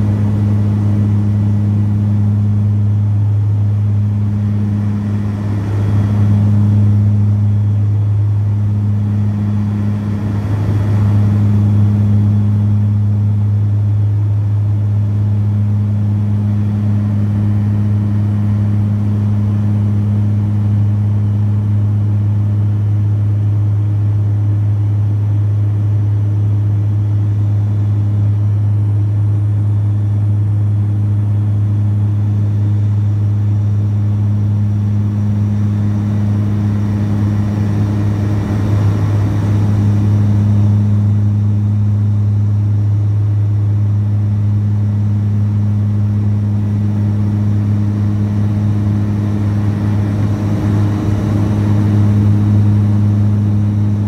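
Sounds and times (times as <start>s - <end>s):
turboprop engine drone in cabin: 0.0s - 54.0s.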